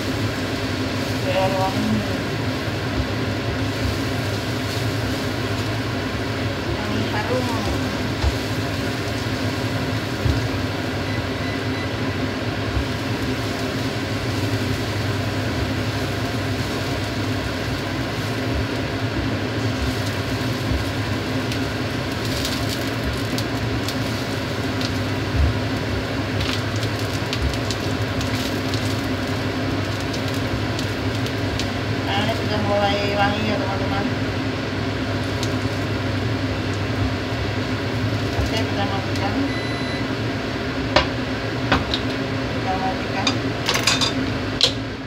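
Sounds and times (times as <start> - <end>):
garlic sizzling in a pan: 0.0 - 45.0
steady low hum: 0.0 - 45.0.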